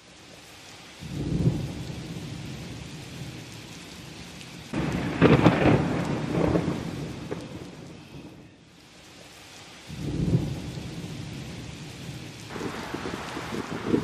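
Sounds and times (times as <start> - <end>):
steady rain: 0.0 - 14.0
thunder rumbling: 1.0 - 8.6, 9.9 - 14.0.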